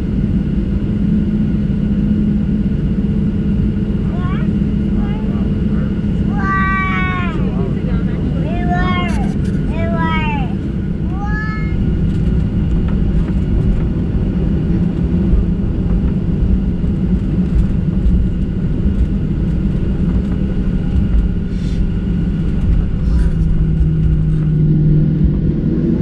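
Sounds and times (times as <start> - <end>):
jet engines low rumble: 0.0 - 26.0.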